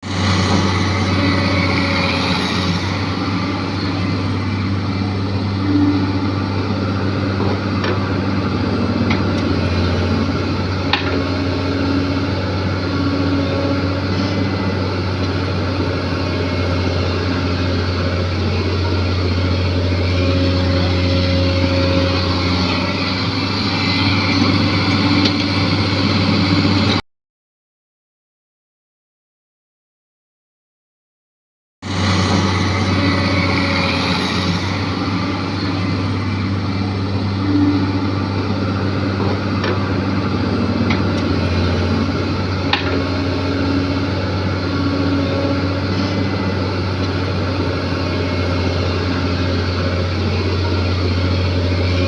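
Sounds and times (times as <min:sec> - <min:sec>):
excavator diesel engine running: 0:00.0 - 0:27.0, 0:31.8 - 0:52.0.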